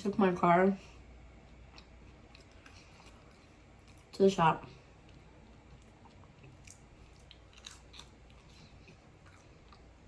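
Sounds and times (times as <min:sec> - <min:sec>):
chewing food: 0:01.4 - 0:10.0.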